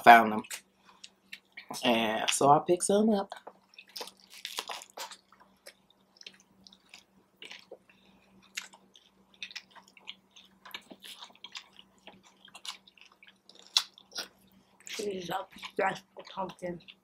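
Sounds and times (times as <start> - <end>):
person chewing food: 0.4 - 2.4, 3.2 - 17.0
mouth clicks and crunches: 3.3 - 17.0.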